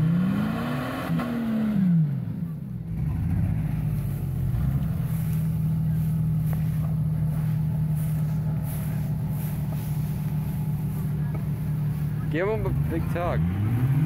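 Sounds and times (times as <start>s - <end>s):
car engine running steadily: 0.0s - 14.0s.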